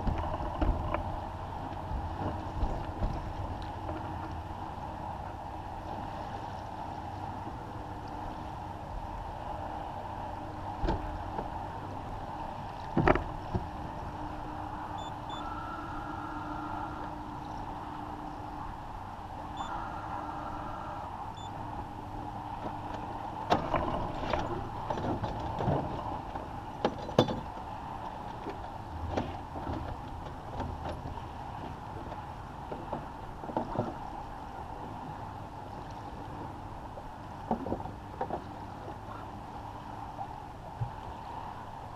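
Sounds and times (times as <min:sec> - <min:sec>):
water washing along hull: 0:00.0 - 0:41.9.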